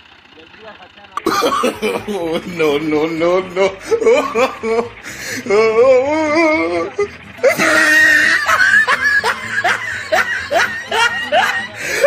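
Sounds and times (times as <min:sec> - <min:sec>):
voice wailing: 0:01.2 - 0:12.0.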